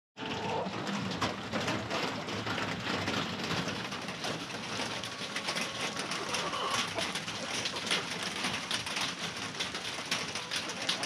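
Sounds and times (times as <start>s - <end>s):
rain on a corrugated roof: 0.2s - 11.0s.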